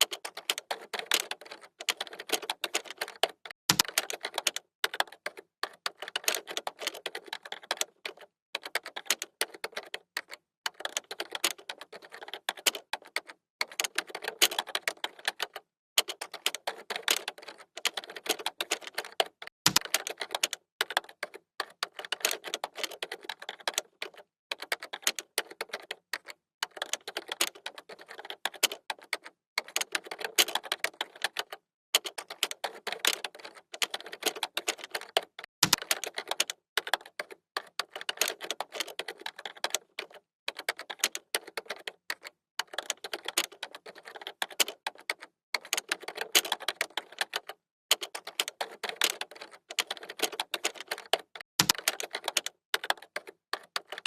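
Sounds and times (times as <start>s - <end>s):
keyboard typing: 0.0s - 54.0s.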